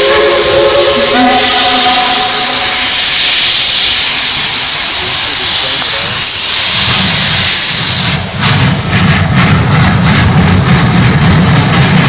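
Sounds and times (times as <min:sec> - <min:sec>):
steam hissing: 0:00.0 - 0:12.0
steam locomotive exhaust chuffing: 0:00.0 - 0:12.0.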